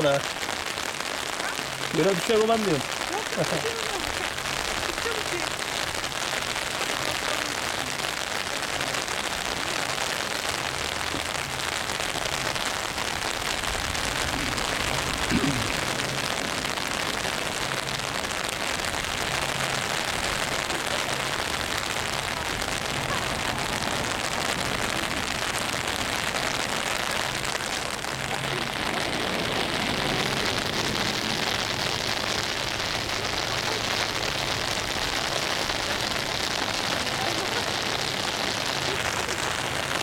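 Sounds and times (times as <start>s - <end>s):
steady rain on wet ground: 0.0s - 40.0s.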